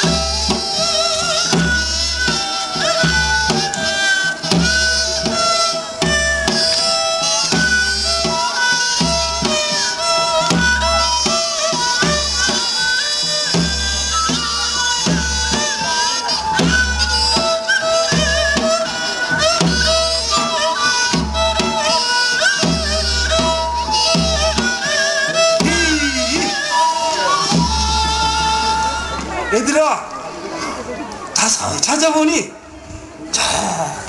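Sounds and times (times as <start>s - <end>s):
slow drum beat: 0.0s - 29.5s
folk melody with ornamented notes: 0.0s - 31.6s.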